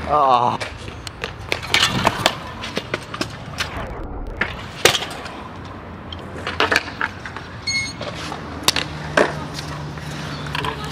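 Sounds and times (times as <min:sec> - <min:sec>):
scooter wheels rolling on concrete: 0:00.0 - 0:03.7, 0:04.4 - 0:10.9.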